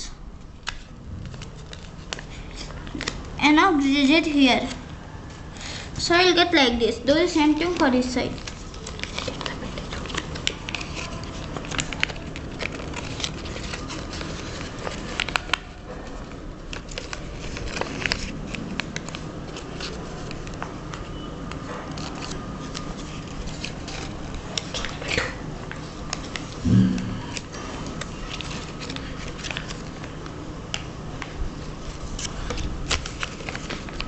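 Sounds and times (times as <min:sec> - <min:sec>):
paper being folded and creased: 0:00.4 - 0:06.4, 0:07.2 - 0:34.0.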